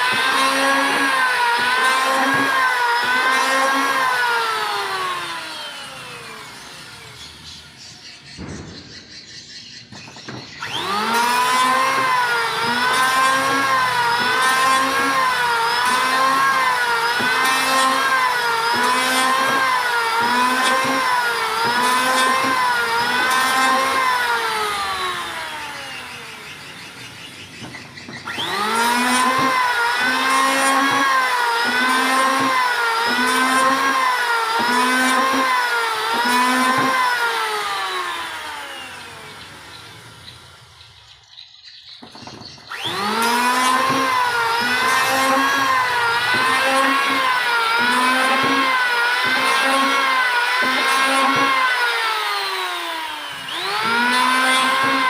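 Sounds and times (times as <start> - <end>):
power tool whining into wood: 0.0 - 8.4, 9.9 - 55.0.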